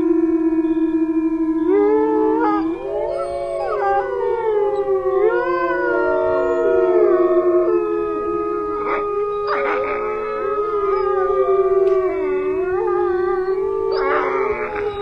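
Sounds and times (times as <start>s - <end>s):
dogs howling: 1.7s - 15.0s.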